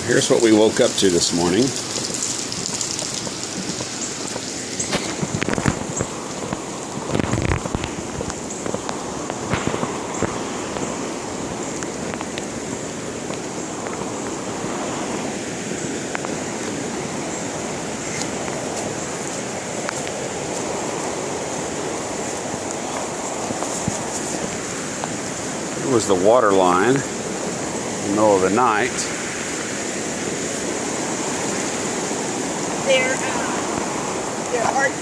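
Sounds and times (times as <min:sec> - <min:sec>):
flooding creek rushing: 0:00.0 - 0:35.0.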